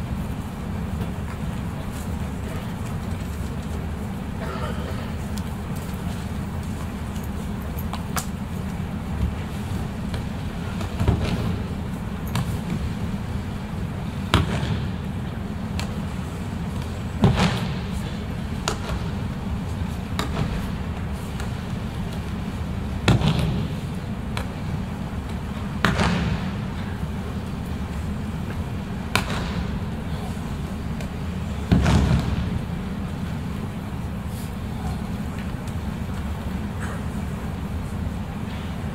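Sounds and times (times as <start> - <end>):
low hum of a large hall: 0.0 - 38.9.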